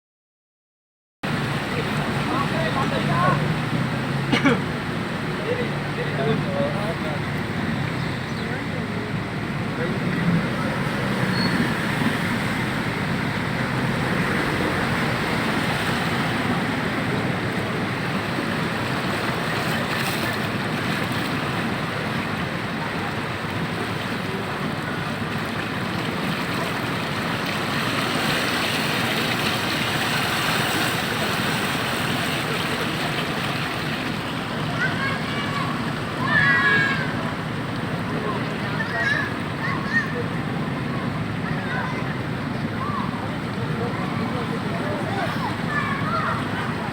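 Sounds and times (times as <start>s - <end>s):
vehicles driving through floodwater: 1.2s - 46.9s.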